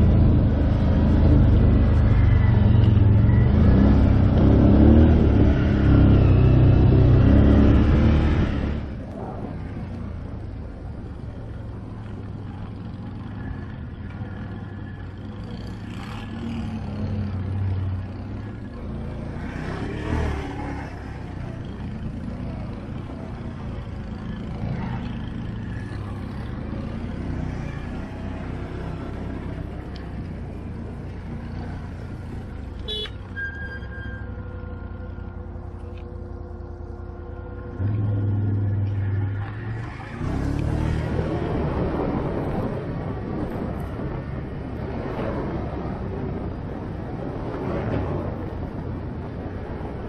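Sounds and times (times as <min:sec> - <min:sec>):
engine running at low revs: 0:00.0 - 0:33.2, 0:34.4 - 0:50.0.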